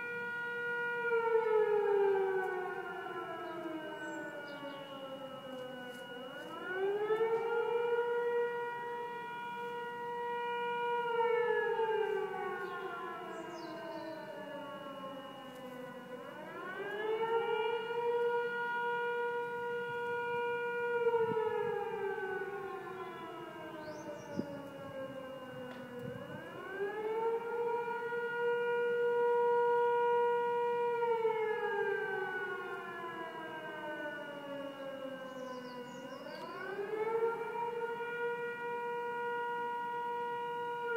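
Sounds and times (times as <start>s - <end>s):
air raid siren wailing: 0.0s - 40.9s.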